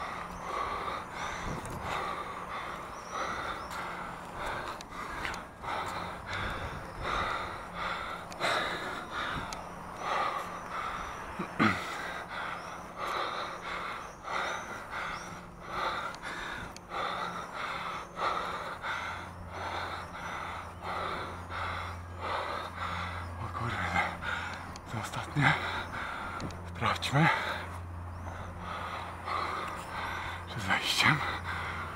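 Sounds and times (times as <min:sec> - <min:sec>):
person breathing hard: 0:00.0 - 0:31.9.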